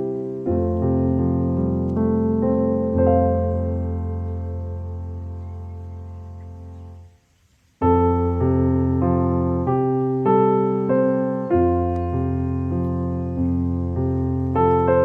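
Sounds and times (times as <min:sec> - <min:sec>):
gentle piano melody: 0:00.0 - 0:07.2, 0:07.8 - 0:15.0.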